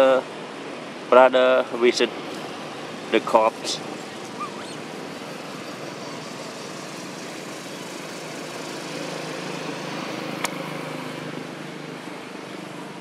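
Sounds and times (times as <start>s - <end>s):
steady background hiss: 0.0s - 13.0s
vehicle engine hum passing: 1.7s - 13.0s.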